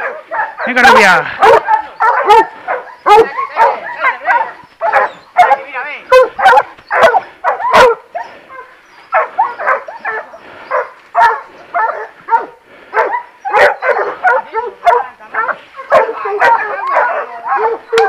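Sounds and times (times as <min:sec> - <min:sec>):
dogs yelping and barking: 0:00.0 - 0:18.0.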